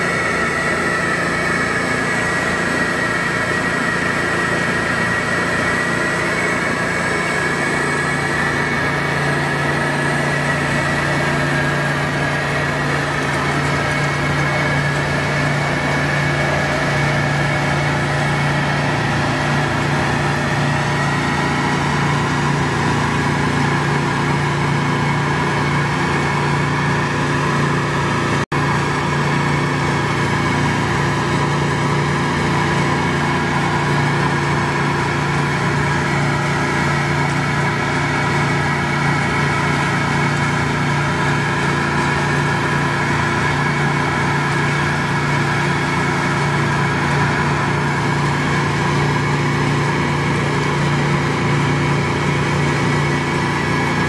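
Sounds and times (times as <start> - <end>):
small engine humming: 0.0 - 54.0.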